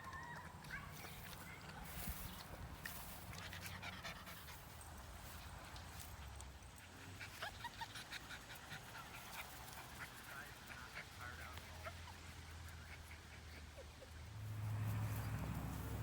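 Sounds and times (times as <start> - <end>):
small dog panting: 0.0 - 15.2.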